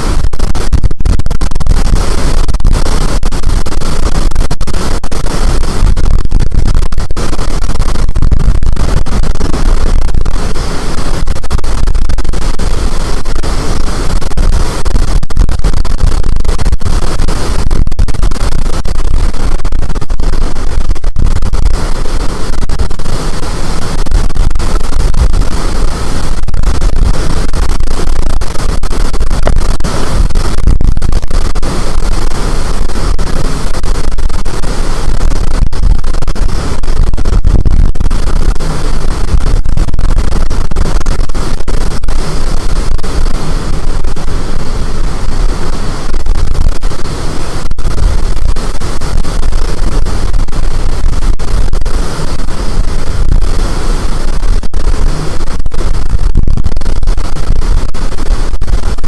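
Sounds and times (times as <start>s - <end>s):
strong wind blasting microphone: 0.0s - 59.0s.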